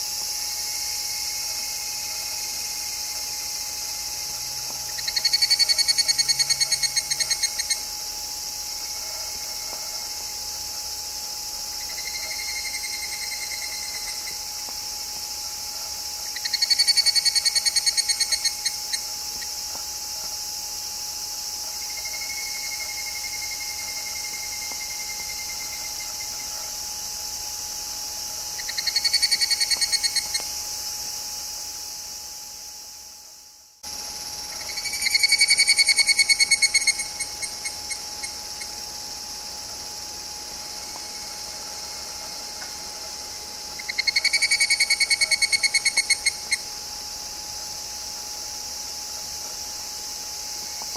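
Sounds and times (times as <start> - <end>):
cicadas ringing trills: 0.0 - 50.9
high hiss of insects: 0.0 - 50.9.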